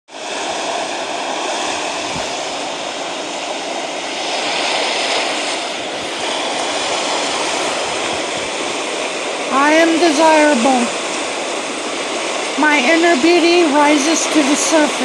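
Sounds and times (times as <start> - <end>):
ocean water rushing: 0.1 - 15.0.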